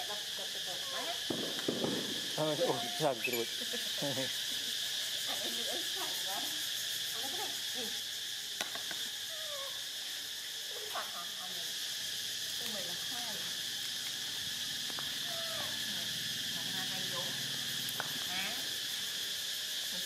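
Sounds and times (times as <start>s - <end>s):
high-pitched insect drone: 0.0s - 20.0s
sliding insect calls: 0.0s - 20.0s.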